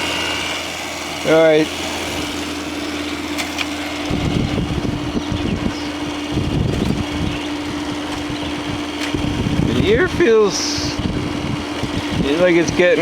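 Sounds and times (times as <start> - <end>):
air conditioner humming: 0.0 - 13.0
low rumbling: 0.0 - 13.0.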